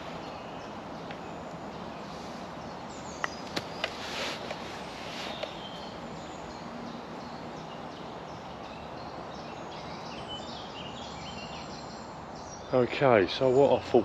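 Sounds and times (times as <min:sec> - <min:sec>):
songbirds chirping and singing: 0:00.0 - 0:14.0
woodland background hiss: 0:00.0 - 0:14.0.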